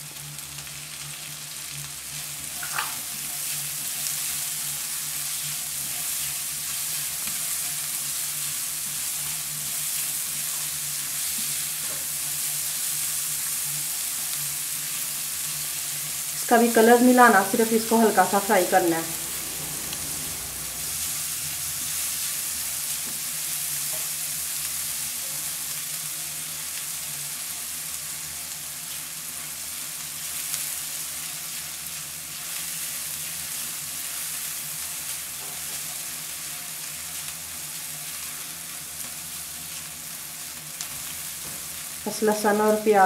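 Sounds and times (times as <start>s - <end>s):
onion and garlic sizzling in oil: 0.0s - 43.0s.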